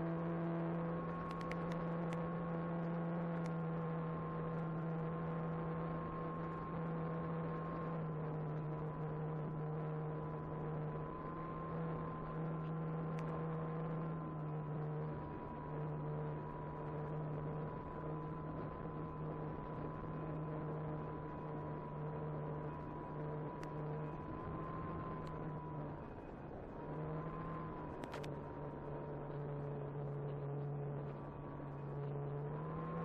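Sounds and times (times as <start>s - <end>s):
model airplane motor droning: 0.0s - 33.0s.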